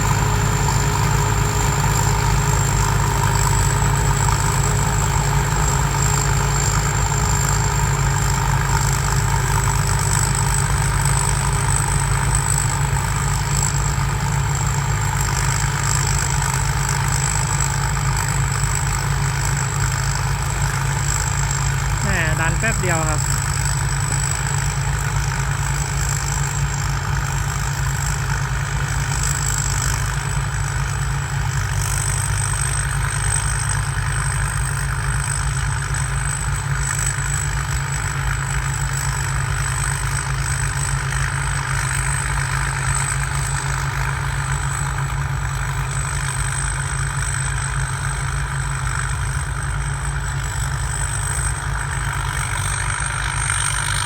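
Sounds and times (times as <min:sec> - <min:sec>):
diesel engine rumbling: 0:00.0 - 0:54.0
turbocharger whine: 0:00.0 - 0:54.0.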